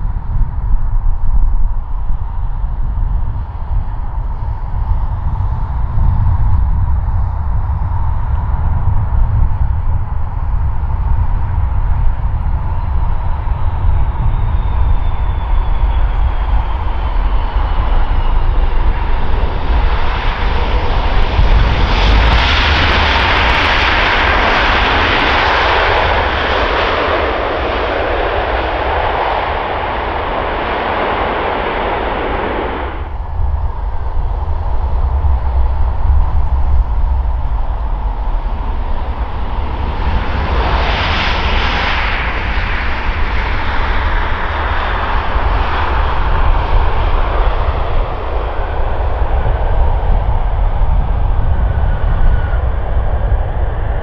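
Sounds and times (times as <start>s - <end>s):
jet engines roaring: 0.0s - 54.0s
steady low rumble: 0.0s - 54.0s.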